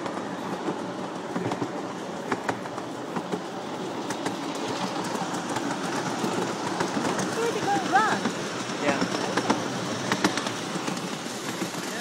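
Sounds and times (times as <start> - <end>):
miniature train rumbling: 0.0 - 12.0
wheels clicking over rail joints: 0.0 - 12.0.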